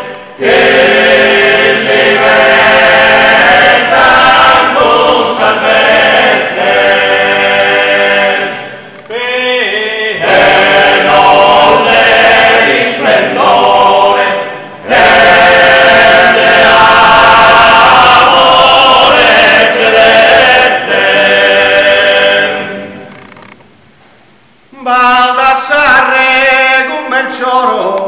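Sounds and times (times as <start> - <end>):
male voices singing in harmony: 0.0 - 23.0, 24.8 - 28.0.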